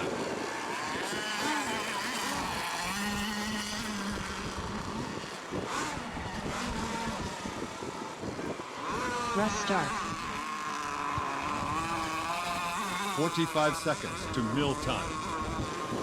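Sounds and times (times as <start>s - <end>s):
model boat engines revving: 0.0s - 16.0s.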